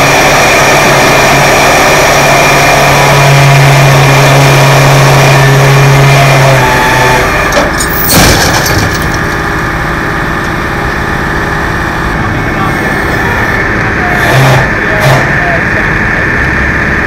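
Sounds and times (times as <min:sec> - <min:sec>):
vehicle engine idling loudly: 0:00.0 - 0:17.0.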